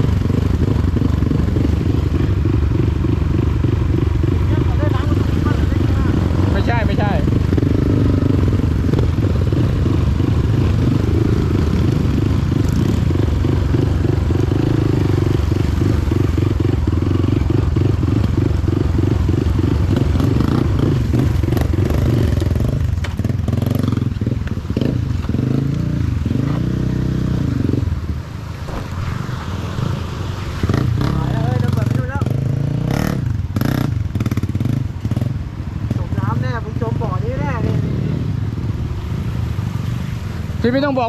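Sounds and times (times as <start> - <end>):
motorcycle engine running: 0.0 - 39.6.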